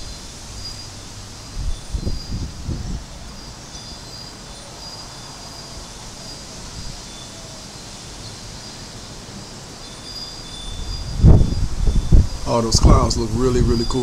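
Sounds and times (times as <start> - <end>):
low rush of wind: 0.0 - 14.0.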